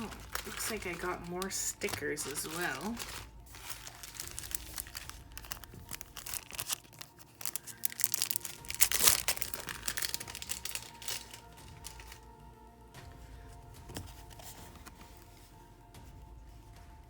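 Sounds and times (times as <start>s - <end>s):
packaging crinkling and rustling: 0.0s - 12.3s, 13.8s - 15.5s.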